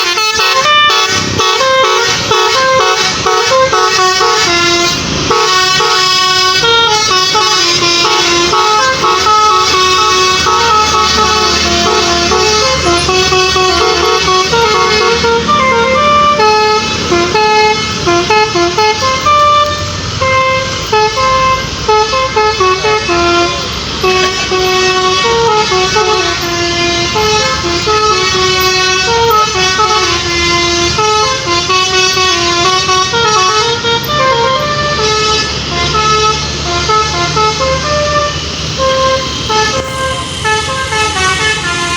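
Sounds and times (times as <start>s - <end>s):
bus engine rumbling: 0.0s - 41.9s
multi-tone air horn melody: 0.0s - 41.9s.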